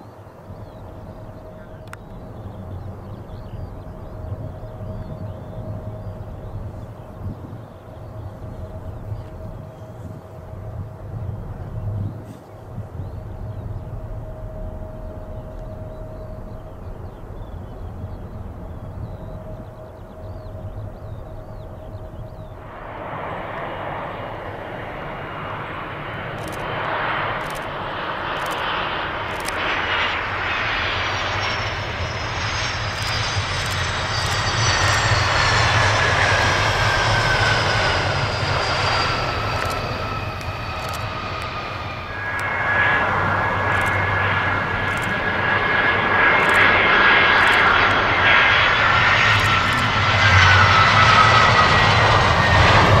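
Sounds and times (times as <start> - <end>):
jet engines rumbling and whining: 0.0 - 53.0
jet noise with steady whine: 0.0 - 53.0.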